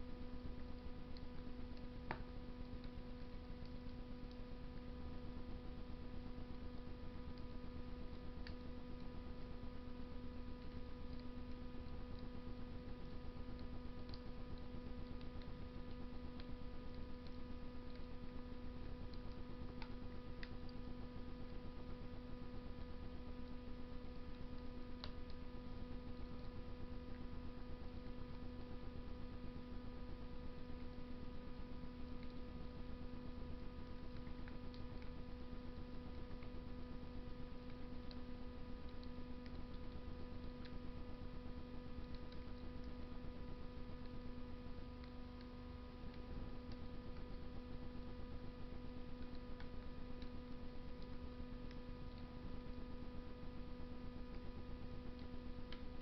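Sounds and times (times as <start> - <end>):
steady hum: 0.0 - 56.0
wood fire crackling in stove: 0.0 - 56.0.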